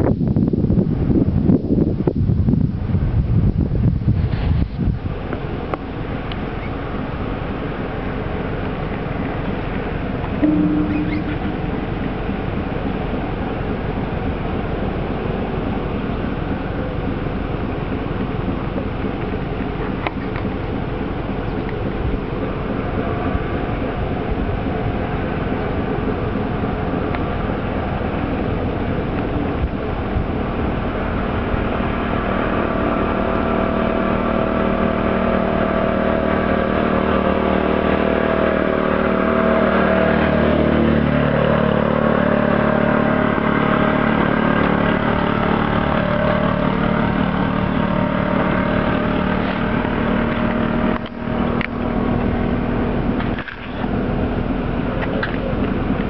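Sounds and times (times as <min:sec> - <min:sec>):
ship diesel engine drone: 0:00.0 - 0:56.0.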